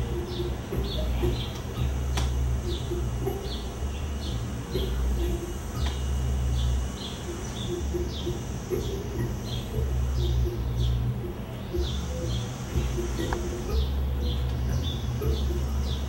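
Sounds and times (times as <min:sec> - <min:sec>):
dove cooing: 0:00.0 - 0:16.0
small bird chirping: 0:00.0 - 0:16.0
steady low rumble: 0:00.0 - 0:16.0.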